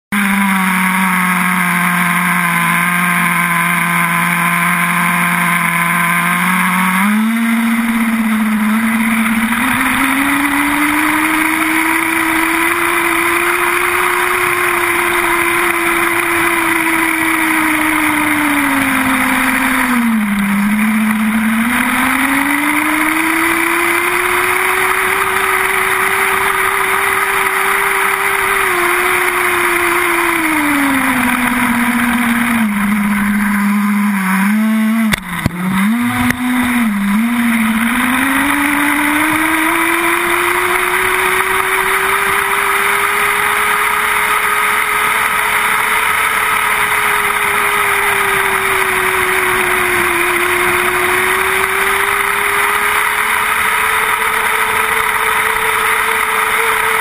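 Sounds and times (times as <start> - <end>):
small nitro engine idling and revving: 0.0 - 57.0.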